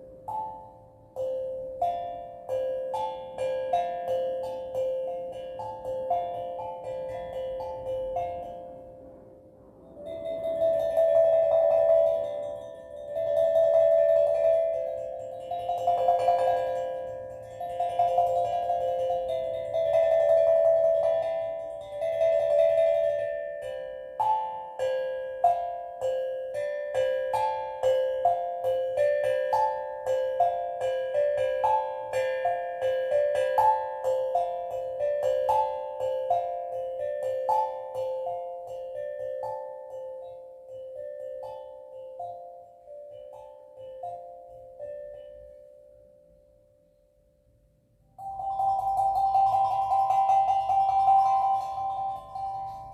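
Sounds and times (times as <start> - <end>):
steel drum notes: 0.0 - 46.5, 48.0 - 52.9.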